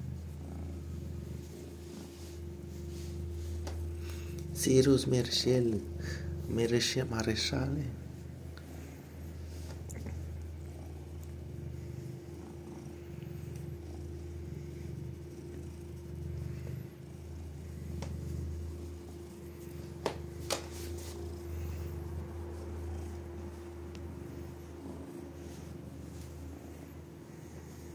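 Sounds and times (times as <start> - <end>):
cat purring: 0.0 - 27.9.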